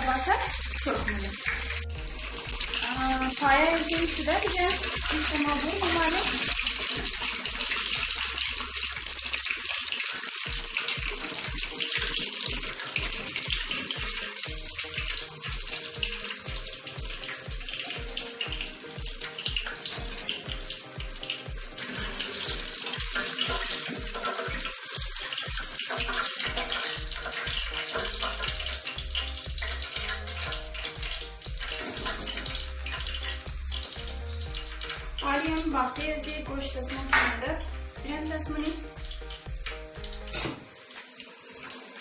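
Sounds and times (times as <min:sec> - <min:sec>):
chicken deep-frying in oil: 0:00.0 - 0:42.0.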